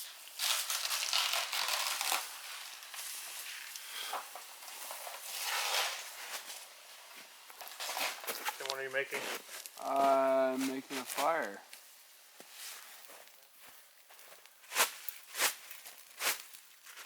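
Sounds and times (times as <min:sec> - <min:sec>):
space blankets crinkling: 0:00.0 - 0:17.0.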